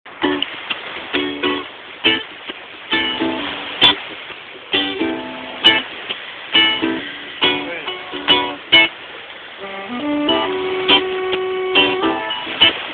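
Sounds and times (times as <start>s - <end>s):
ukulele strumming: 0.1s - 9.0s, 9.6s - 12.9s.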